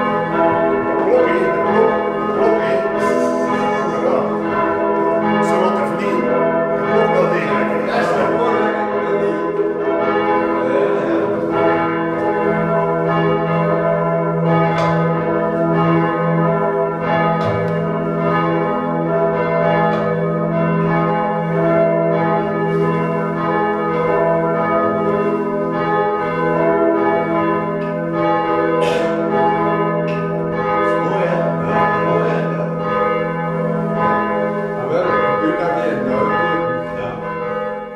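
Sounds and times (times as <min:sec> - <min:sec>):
church bells pealing: 0:00.0 - 0:37.9.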